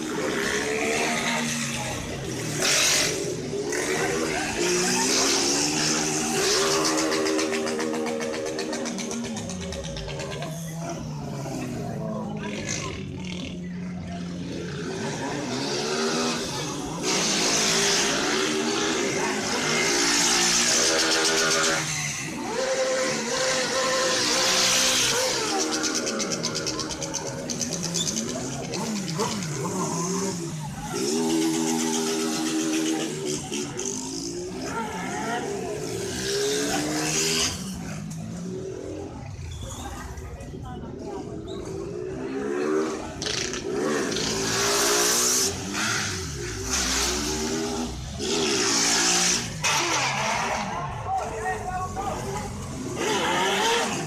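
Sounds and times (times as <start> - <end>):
engine revving hard: 0.0 - 13.6, 14.2 - 40.0, 41.0 - 54.0.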